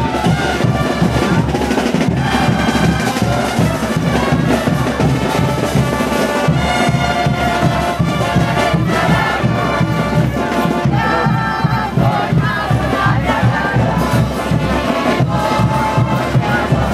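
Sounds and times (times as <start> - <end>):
steady drum beat: 0.0 - 16.9
trumpets and trombones melody: 0.0 - 16.9.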